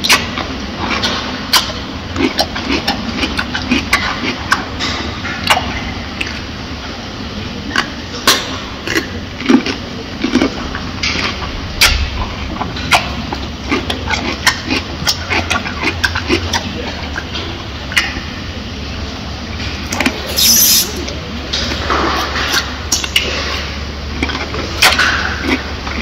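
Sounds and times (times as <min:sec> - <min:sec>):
gorilla chewing wet crunches: 0:00.0 - 0:06.5, 0:07.6 - 0:18.5, 0:19.2 - 0:26.0
steady low hum: 0:00.0 - 0:26.0.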